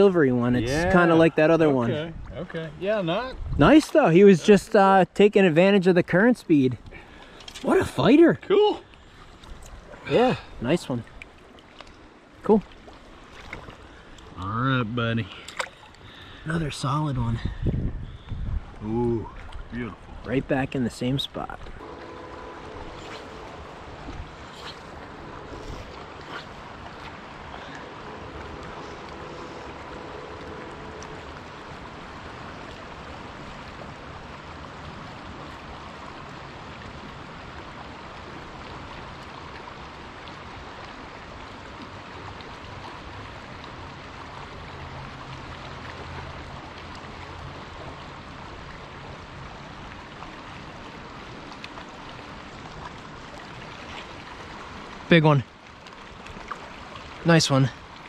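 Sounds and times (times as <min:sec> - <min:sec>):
river water rushing: 0:00.0 - 0:17.4, 0:18.7 - 0:58.0.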